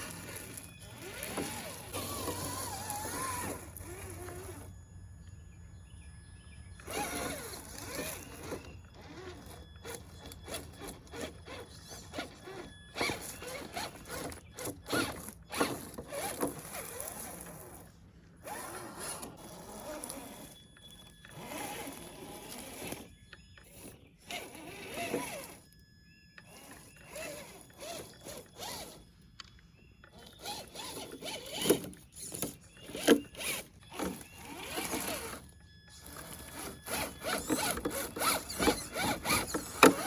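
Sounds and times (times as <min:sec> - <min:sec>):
tyres scraping on dirt: 0:00.0 - 0:04.7, 0:06.8 - 0:20.6, 0:21.3 - 0:23.1, 0:23.7 - 0:25.6, 0:26.4 - 0:29.0, 0:30.1 - 0:40.0
electric motor whining: 0:00.0 - 0:04.8, 0:06.7 - 0:20.6, 0:21.3 - 0:25.7, 0:26.4 - 0:29.1, 0:30.1 - 0:40.0.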